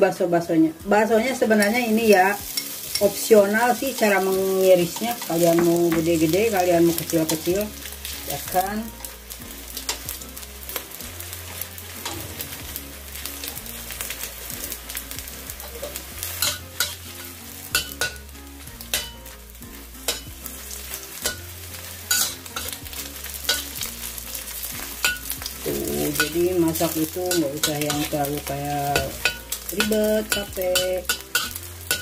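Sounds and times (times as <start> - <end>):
fish balls sizzling in hot oil: 0.0 - 32.0
metal spatula scraping a pan: 1.1 - 32.0.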